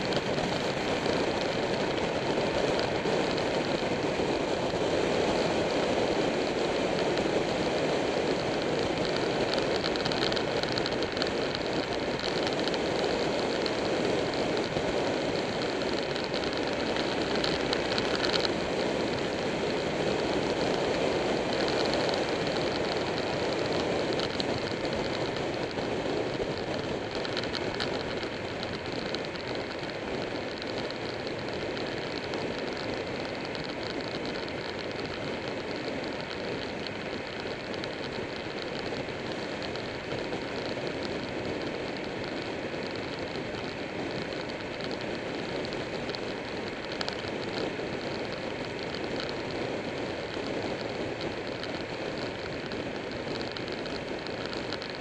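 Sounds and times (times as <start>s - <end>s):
wind and road noise rushing: 0.0s - 55.0s.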